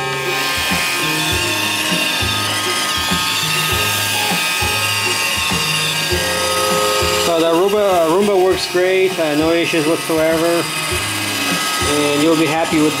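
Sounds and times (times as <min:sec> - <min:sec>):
robot vacuum motor whine: 0:00.0 - 0:13.0.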